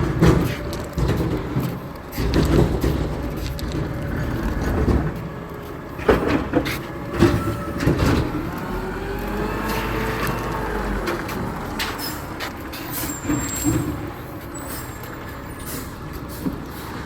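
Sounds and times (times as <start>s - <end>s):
garbage truck engine rumble: 0.0s - 17.0s.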